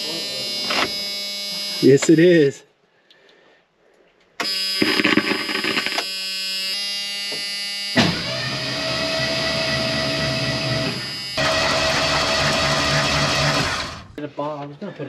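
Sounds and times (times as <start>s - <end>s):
dash warning buzzer: 0.0s - 2.4s, 4.4s - 14.2s.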